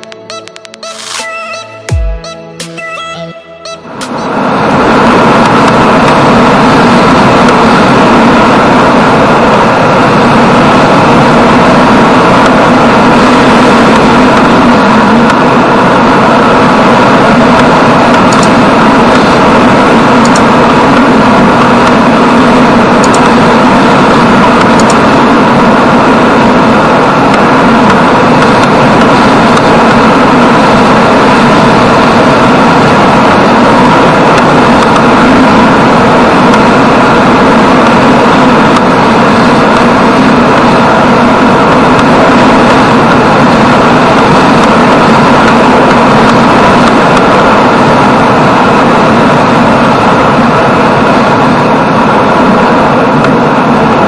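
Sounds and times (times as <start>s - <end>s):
wind and road noise: 3.8s - 54.0s.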